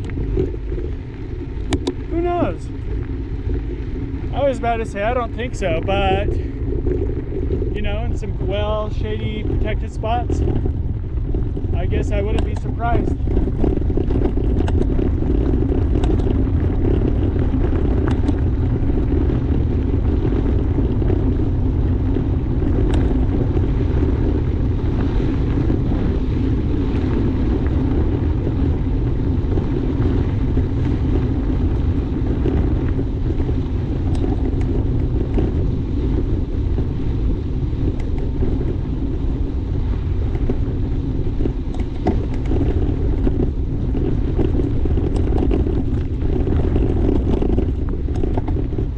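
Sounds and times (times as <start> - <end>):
bike tyres rolling over dirt: 0.0 - 48.9
wind on microphone: 0.0 - 48.9.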